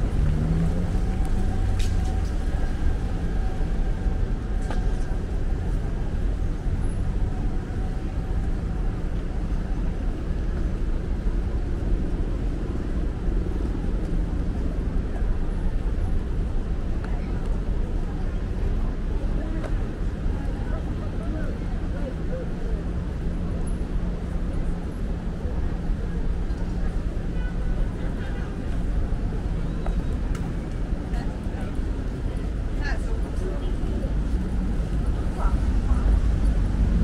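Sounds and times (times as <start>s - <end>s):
passing cars rumbling: 0.0s - 37.0s.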